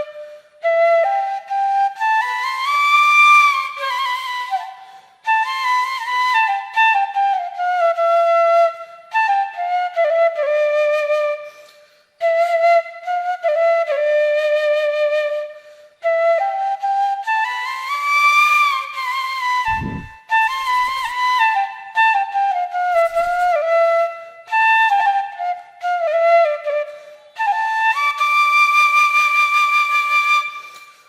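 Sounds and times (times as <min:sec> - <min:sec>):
solo flute melody: 0:00.0 - 0:31.0.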